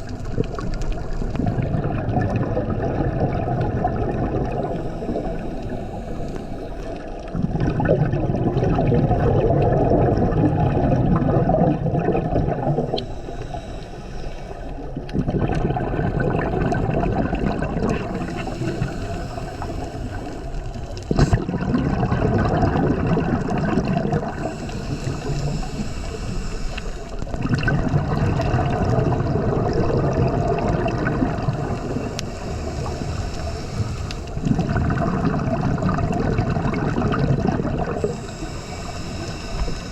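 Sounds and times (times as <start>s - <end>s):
exhaled bubbles gurgling: 0.0s - 39.9s
scuba regulator breathing underwater: 0.0s - 39.9s.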